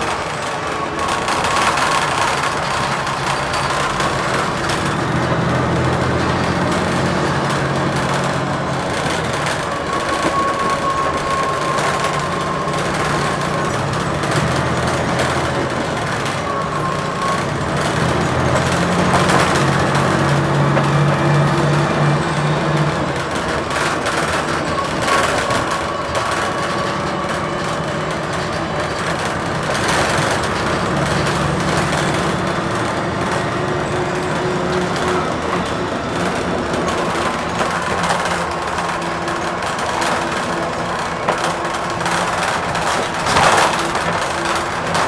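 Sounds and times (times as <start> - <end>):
bus engine and road noise: 0.0 - 45.0.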